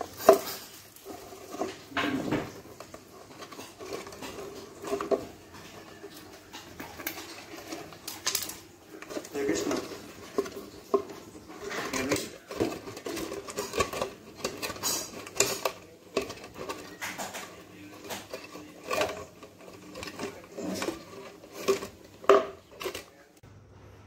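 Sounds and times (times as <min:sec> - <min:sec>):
plastic bottle crinkling: 0:00.0 - 0:23.3.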